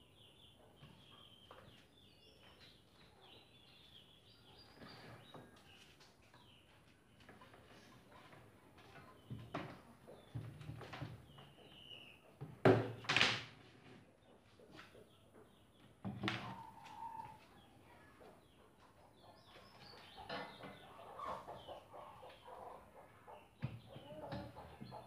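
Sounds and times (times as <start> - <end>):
chickens clucking: 0.1 - 12.6, 13.9 - 25.0.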